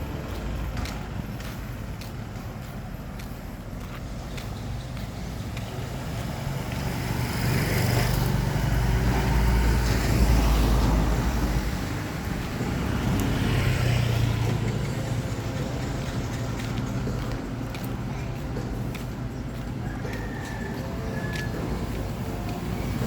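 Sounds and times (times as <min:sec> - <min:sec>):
motor vehicles passing: 0:00.0 - 0:23.0.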